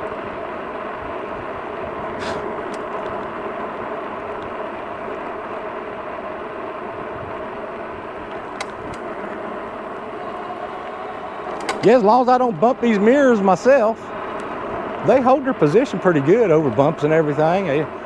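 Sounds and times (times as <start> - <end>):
tyres rolling on road: 0.0 - 18.0.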